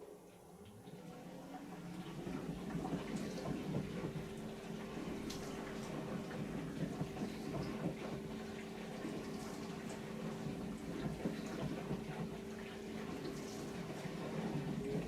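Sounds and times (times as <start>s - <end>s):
dishwasher pump humming: 0.0s - 15.0s.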